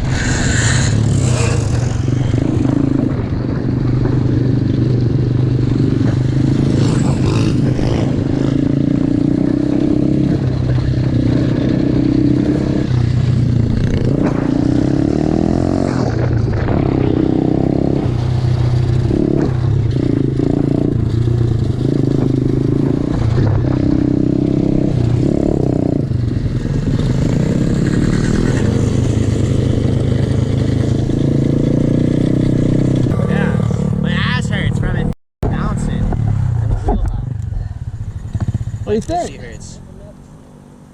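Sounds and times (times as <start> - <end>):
motorbike engine revving: 0.0 - 40.2.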